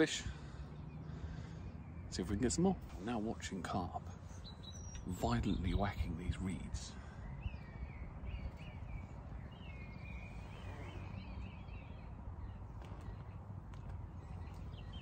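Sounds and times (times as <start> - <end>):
small bird singing: 0.6 - 15.0.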